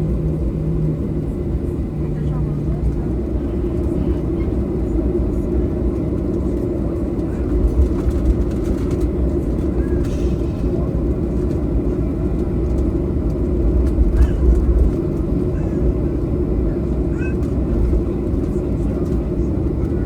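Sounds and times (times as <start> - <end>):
airliner cabin rumble: 0.0 - 20.0.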